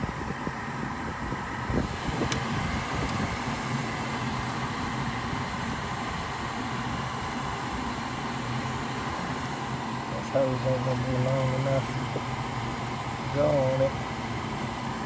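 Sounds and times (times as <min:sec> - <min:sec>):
blower motor humming: 0:00.0 - 0:15.0.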